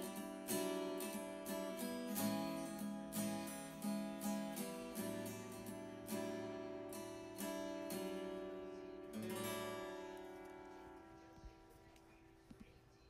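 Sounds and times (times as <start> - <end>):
acoustic guitar strumming chords: 0.0 - 12.3.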